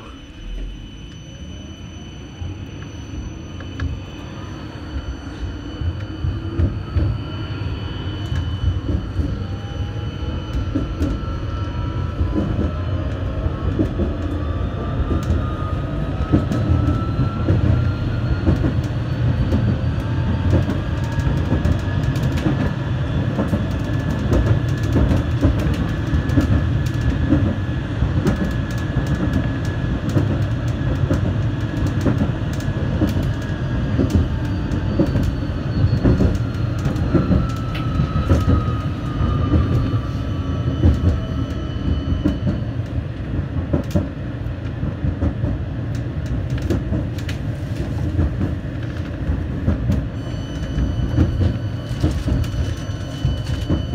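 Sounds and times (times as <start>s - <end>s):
tram traction drive whine: 0.0s - 53.9s
tram wheels rumbling on rail: 0.0s - 53.9s.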